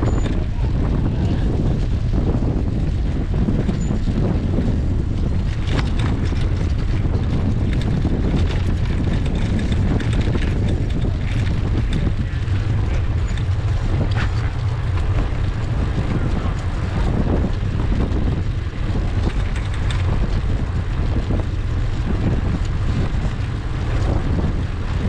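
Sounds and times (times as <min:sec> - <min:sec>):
light clicks and rattles: 0:00.0 - 0:02.1, 0:02.7 - 0:25.0
wind buffeting microphone: 0:00.0 - 0:25.0.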